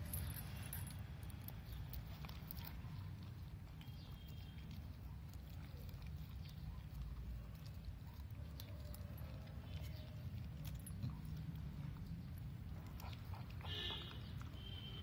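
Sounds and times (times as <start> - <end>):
puppy licking and chewing: 0.0 - 15.0.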